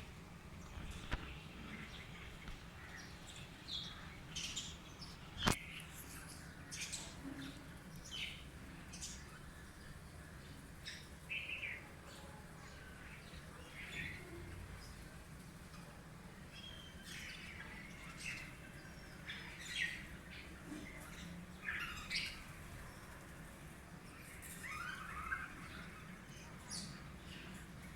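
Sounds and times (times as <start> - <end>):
birds chirping: 0.0 - 15.2, 16.3 - 27.9.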